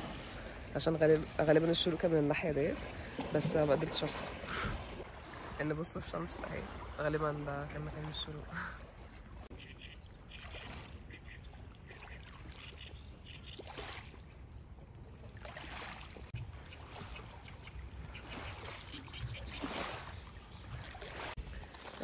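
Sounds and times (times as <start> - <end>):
small waves lapping at shore: 0.0 - 22.0.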